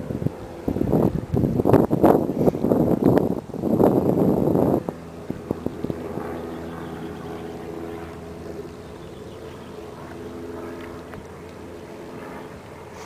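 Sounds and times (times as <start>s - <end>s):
electric propeller motor humming: 0.0s - 13.0s.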